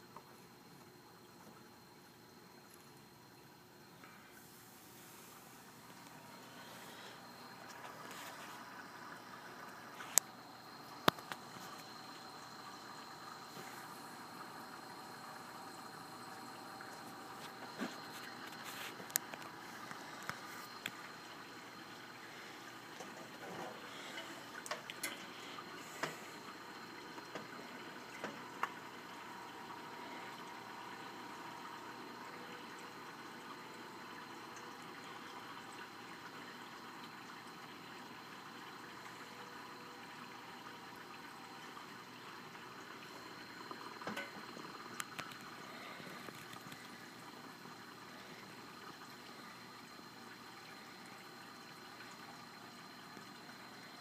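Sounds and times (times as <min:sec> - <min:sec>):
aquarium water churning: 0:00.0 - 0:54.0
faint steady tone: 0:00.0 - 0:54.0
pump high whine: 0:00.0 - 0:54.0.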